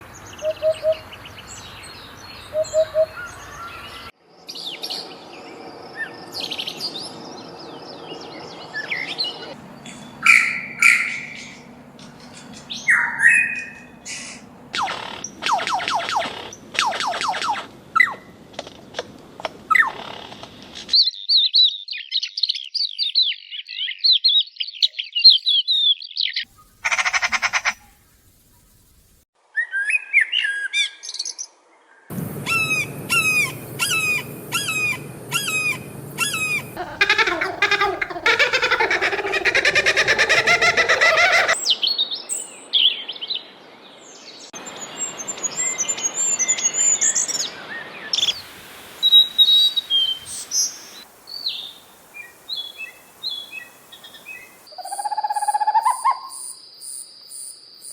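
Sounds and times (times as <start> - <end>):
bird calls and songs: 0.0 - 18.3, 19.7 - 29.0, 29.6 - 57.9.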